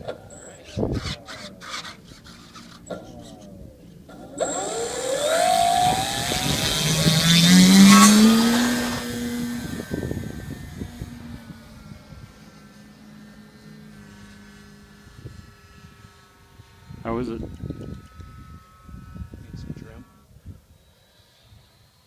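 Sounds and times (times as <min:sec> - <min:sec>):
model plane electric motor whine: 0:00.0 - 0:22.0.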